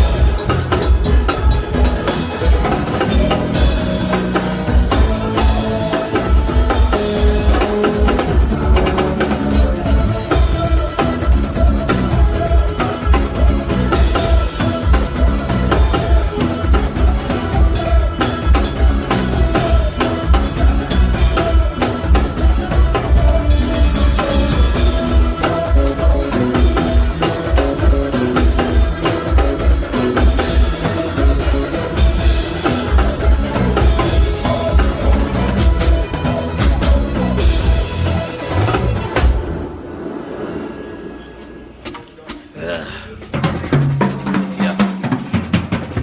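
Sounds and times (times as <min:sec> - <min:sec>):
heavy bass line: 0:00.0 - 0:39.9
drum kit: 0:00.0 - 0:46.0
live band playing: 0:00.0 - 0:46.0.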